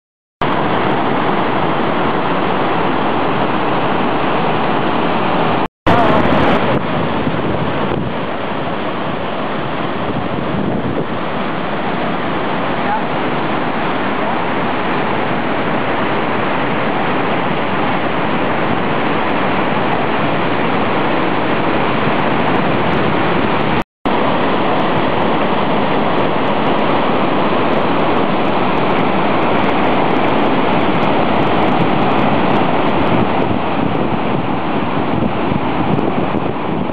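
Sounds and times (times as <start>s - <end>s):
waterfall rushing: 0.4s - 36.9s
whitewater pouring over boulders: 0.4s - 36.9s.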